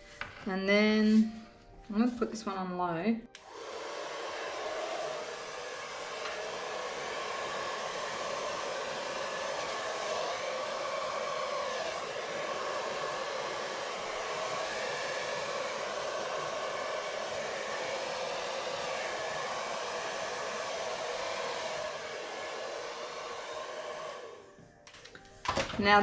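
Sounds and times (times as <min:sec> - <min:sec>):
hair dryer blowing: 0:00.2 - 0:01.3, 0:01.9 - 0:24.6
hair dryer switch: 0:03.3 - 0:24.4.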